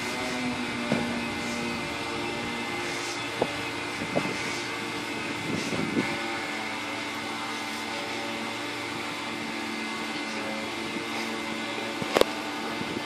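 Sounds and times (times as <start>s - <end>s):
crane machinery hum: 0.0s - 13.0s.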